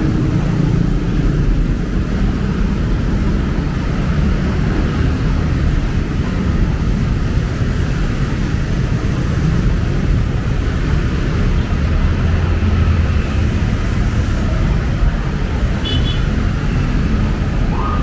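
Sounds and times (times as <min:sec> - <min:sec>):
motorcycle and car traffic: 0:00.0 - 0:18.0.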